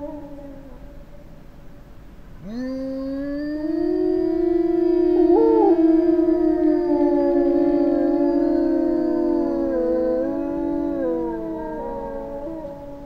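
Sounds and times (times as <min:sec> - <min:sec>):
wolves howling in chorus: 0:00.0 - 0:01.1, 0:02.9 - 0:13.0.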